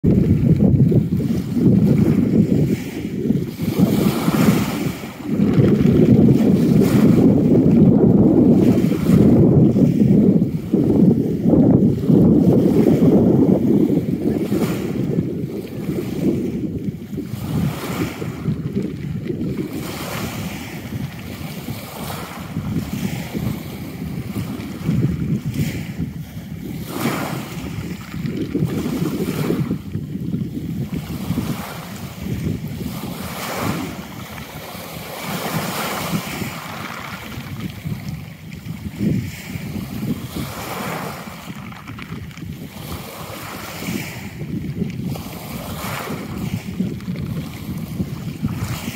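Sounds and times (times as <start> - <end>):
sea waves splashing: 0.0 - 48.9
wind buffeting microphone: 0.0 - 48.9.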